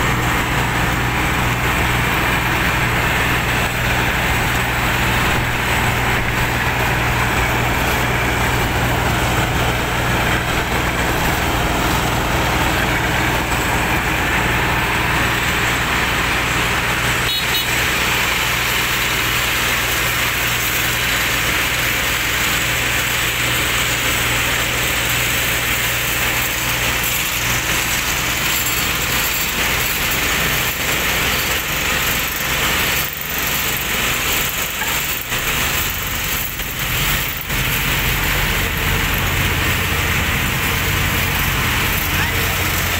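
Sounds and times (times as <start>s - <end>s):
paver diesel engine running: 0.0s - 42.9s
road roller diesel engines: 0.0s - 42.9s.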